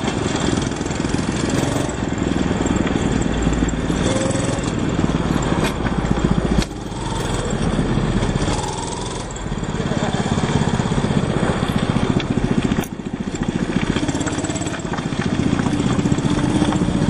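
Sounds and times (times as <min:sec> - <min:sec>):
go-kart engine passing: 0:00.0 - 0:17.0.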